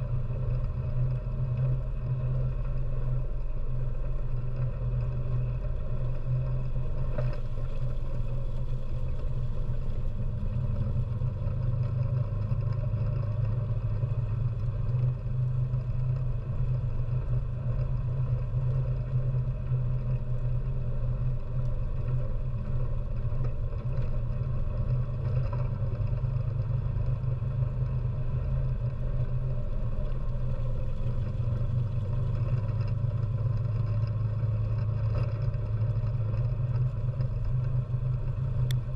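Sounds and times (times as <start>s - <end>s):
atv engine droning: 0.0s - 38.9s.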